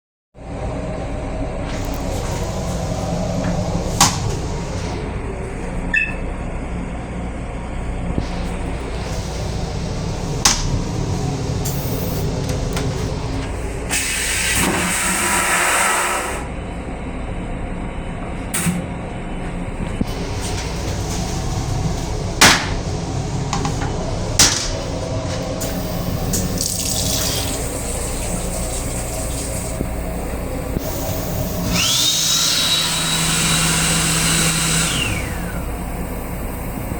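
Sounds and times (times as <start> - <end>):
toilet flush with pump whine: 0.4 - 6.1, 8.2 - 16.7, 19.6 - 36.9
railcar low hum: 0.4 - 15.6, 16.4 - 36.9.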